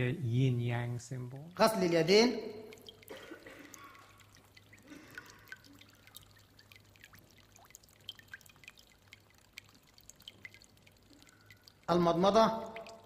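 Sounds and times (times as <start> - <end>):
low steady hum: 0.0 - 13.0
water dripping and trickling: 0.7 - 13.0.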